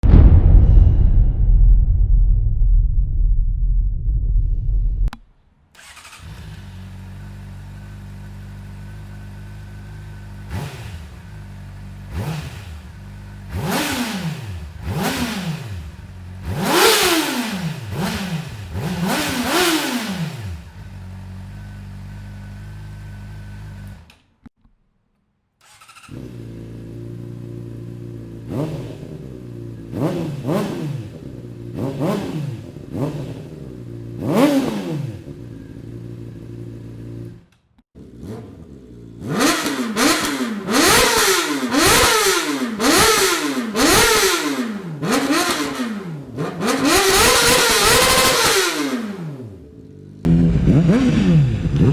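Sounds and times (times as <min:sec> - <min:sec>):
motorcycle engine idling and revving: 0:05.1 - 0:24.6, 0:25.6 - 0:51.9.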